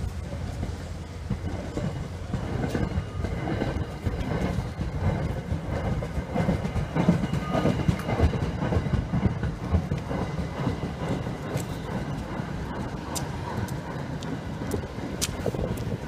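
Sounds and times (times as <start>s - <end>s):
rail coaches rumbling past: 0.0s - 16.0s
wheels clacking over rail joints: 0.0s - 16.0s.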